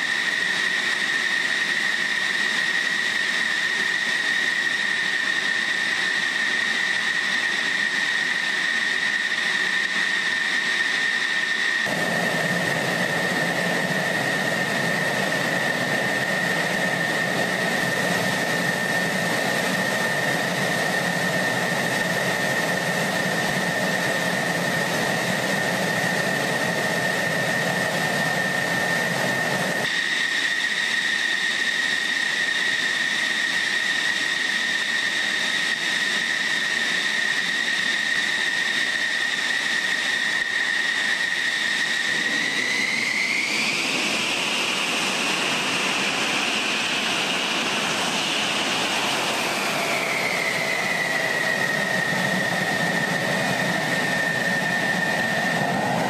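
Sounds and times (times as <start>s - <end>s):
jet engine rushing roar: 0.0s - 56.0s
jet engine whine: 0.0s - 56.0s.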